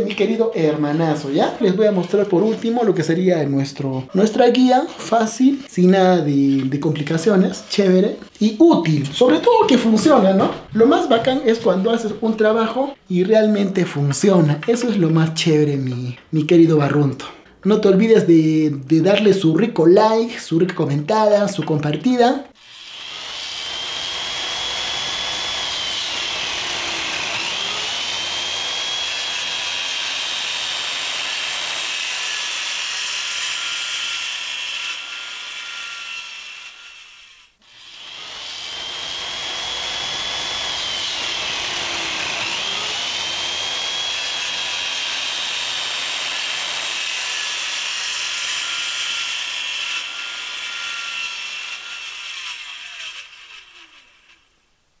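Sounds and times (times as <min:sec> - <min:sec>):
circular saw cutting wood: 0:00.0 - 0:15.4, 0:22.5 - 0:54.6.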